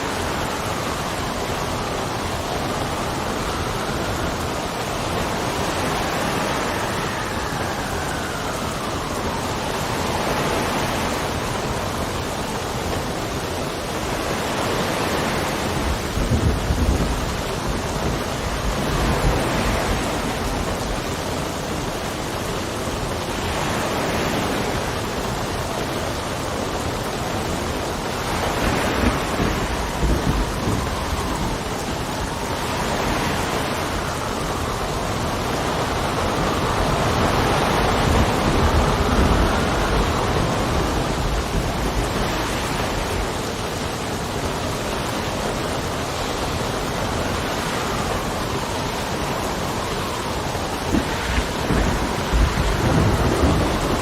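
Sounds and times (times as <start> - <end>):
steady rain: 0.0 - 54.0
wind gusting: 0.0 - 54.0.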